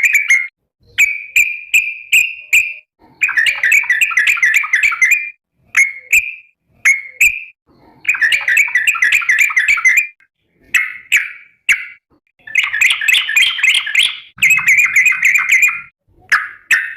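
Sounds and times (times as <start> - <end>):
bulbul calling: 0.0 - 16.9.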